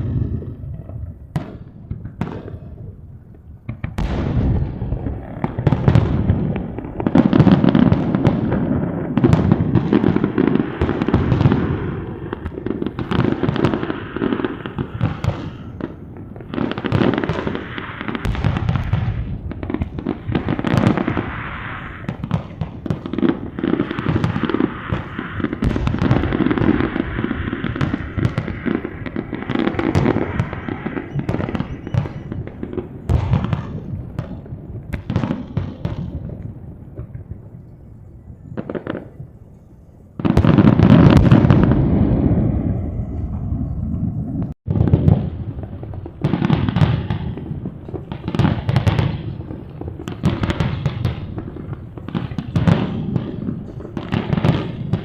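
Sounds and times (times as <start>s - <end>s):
fireworks booming: 0.0s - 55.0s
fireworks crackling: 0.0s - 55.0s.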